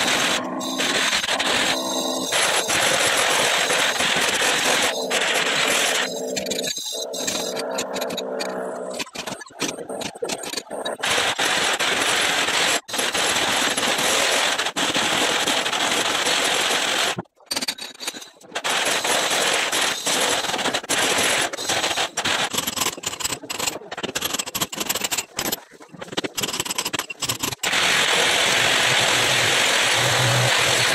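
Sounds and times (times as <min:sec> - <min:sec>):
rotary hammer drilling concrete: 0:00.0 - 0:30.9.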